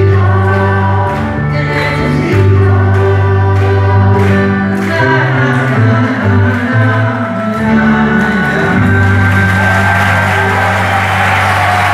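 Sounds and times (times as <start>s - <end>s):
bass notes: 0.0s - 11.9s
keyboard chords: 0.0s - 11.9s.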